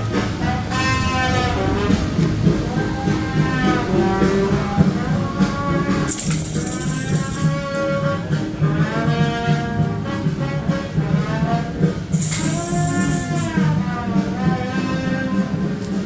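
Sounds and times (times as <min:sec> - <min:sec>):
music with percussive beat: 0:01.9 - 0:16.0.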